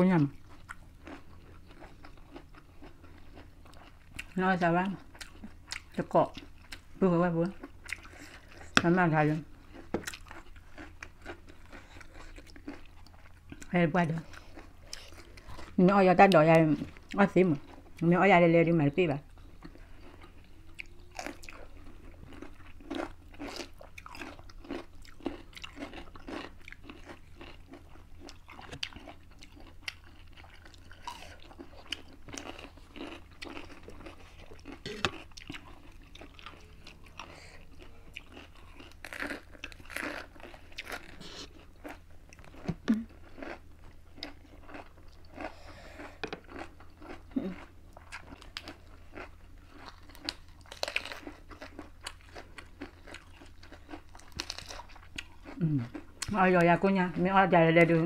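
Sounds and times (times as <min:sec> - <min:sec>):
crunching and chewing lettuce: 0:00.0 - 0:18.0, 0:19.3 - 0:58.0.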